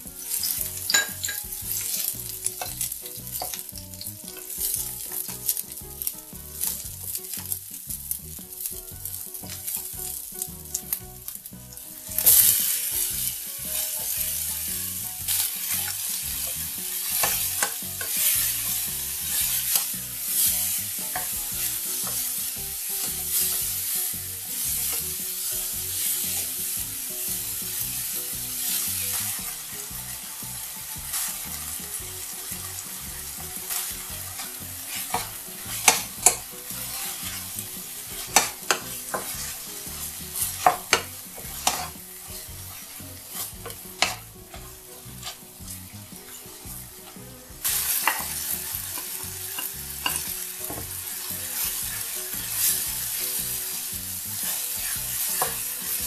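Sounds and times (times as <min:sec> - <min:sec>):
vegetables sizzling in a frying pan: 0:00.0 - 0:56.0.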